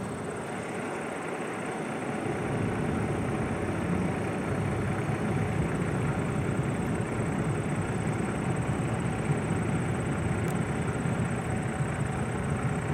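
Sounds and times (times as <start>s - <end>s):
diesel locomotive engine running: 0.0s - 12.9s.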